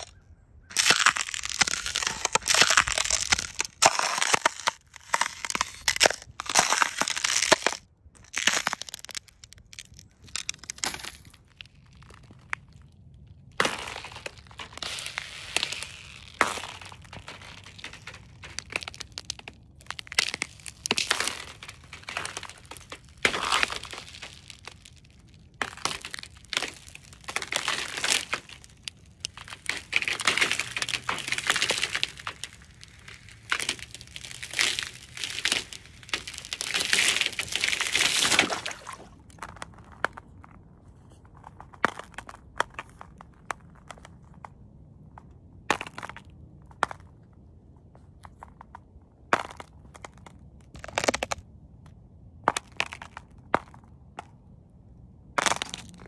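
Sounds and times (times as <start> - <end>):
ice cracking under footsteps: 0.0 - 47.4, 48.0 - 54.5, 55.4 - 56.0.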